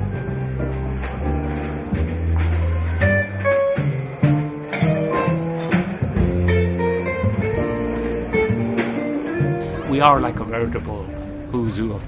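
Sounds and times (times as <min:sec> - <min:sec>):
guitar playing: 0:00.0 - 0:12.0
low bass line: 0:00.0 - 0:12.0.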